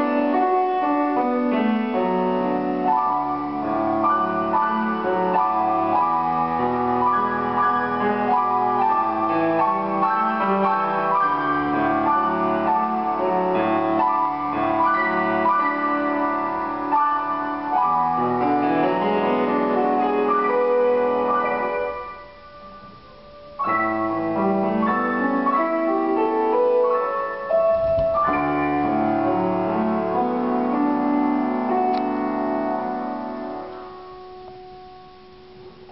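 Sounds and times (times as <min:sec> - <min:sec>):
solo grand piano: 0:00.0 - 0:35.9.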